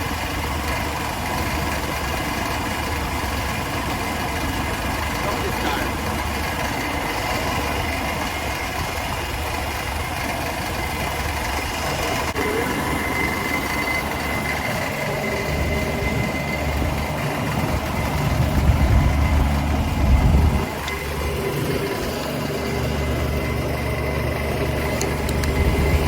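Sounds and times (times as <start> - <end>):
machine hum: 0.0 - 26.0
thin constant whine: 0.0 - 26.0.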